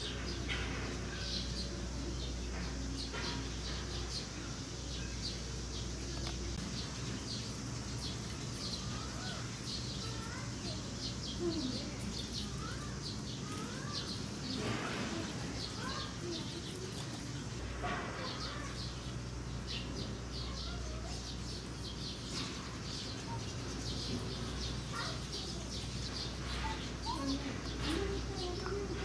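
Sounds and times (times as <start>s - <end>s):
low background hum: 0.0s - 29.0s
small birds chirping: 0.0s - 29.0s.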